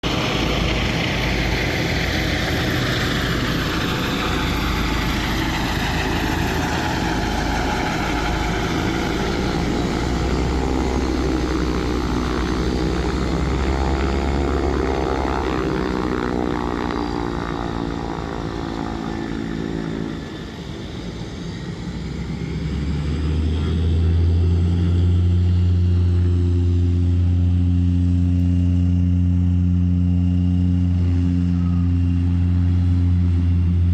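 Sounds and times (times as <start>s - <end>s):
propeller airplane engine: 0.0s - 33.9s.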